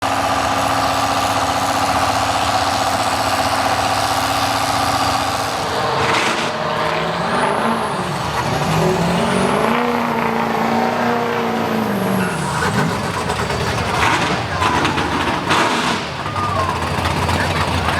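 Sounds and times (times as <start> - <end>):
diesel truck engine revving: 0.0 - 17.9.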